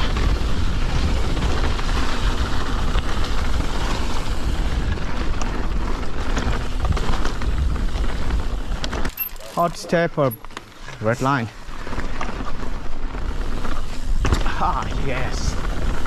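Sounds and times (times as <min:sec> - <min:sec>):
bike clicks and rattles: 0:00.0 - 0:16.0
rolling tyre noise: 0:00.0 - 0:16.0.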